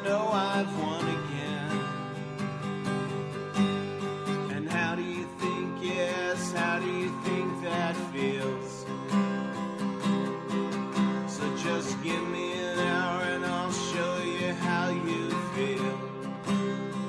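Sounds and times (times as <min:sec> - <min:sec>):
strummed acoustic guitar song: 0:00.0 - 0:17.0.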